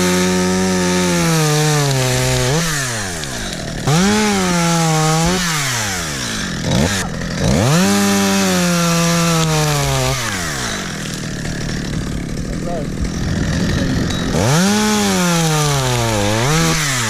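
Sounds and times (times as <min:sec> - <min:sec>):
chainsaw revving and cutting wood: 0:00.0 - 0:17.0.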